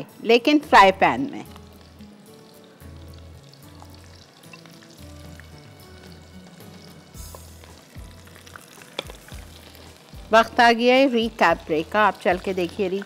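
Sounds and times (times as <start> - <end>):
fish deep-frying in hot oil: 0.7 - 13.0.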